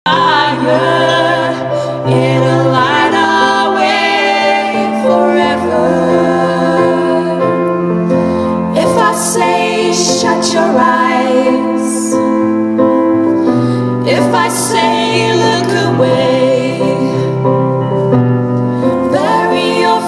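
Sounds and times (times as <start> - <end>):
voices singing in harmony: 0.1 - 17.9, 18.6 - 20.0.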